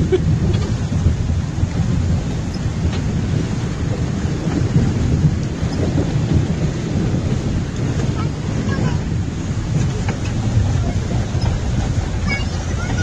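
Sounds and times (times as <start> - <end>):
vehicle engine rumble: 0.0 - 13.0
water splashing against vehicle: 0.0 - 13.0
wind buffeting microphone: 0.0 - 13.0.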